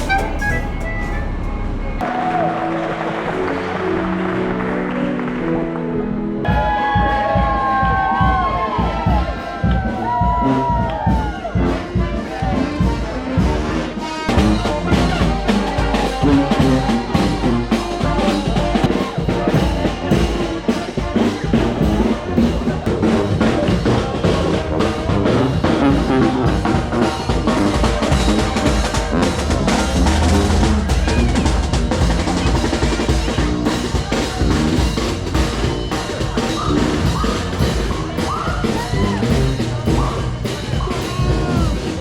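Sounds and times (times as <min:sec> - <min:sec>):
steady drum beat: 0:00.0 - 0:01.4, 0:06.5 - 0:42.0
brass horns playing: 0:00.0 - 0:04.3, 0:10.4 - 0:42.0.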